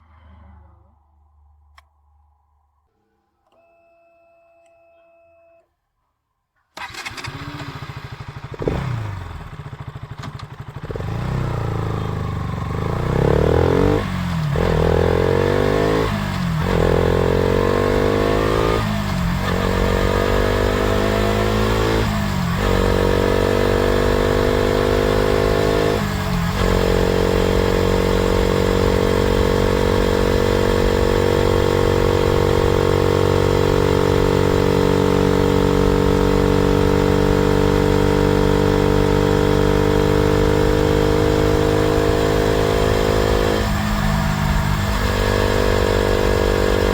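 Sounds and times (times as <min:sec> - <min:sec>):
motorcycle engine starting: 0:06.7 - 0:46.9
motorcycle engine revving through gears: 0:06.8 - 0:46.9.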